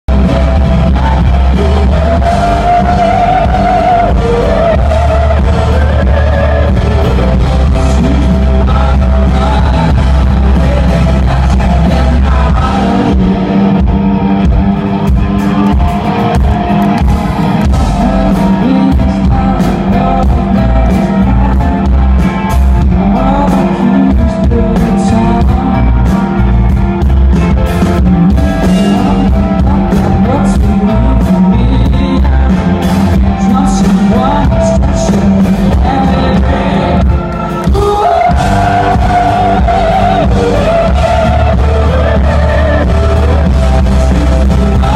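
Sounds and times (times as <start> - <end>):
person singing: 0.0 - 14.1, 15.4 - 26.8, 27.4 - 44.9
deep bass line: 0.0 - 44.9
distorted electric guitar: 0.0 - 44.9
drums: 0.0 - 44.9.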